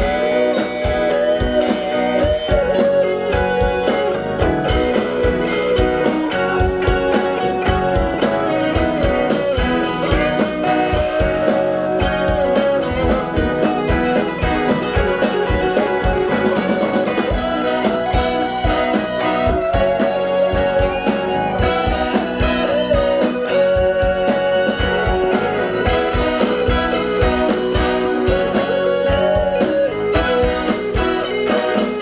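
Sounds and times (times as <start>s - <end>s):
blues-rock guitar melody: 0.0s - 32.0s
steady drum beat: 0.0s - 32.0s.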